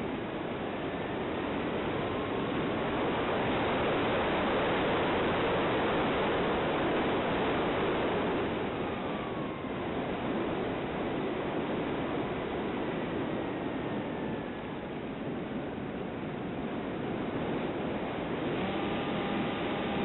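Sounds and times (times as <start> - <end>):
faint electric motor whine: 0.0 - 20.0.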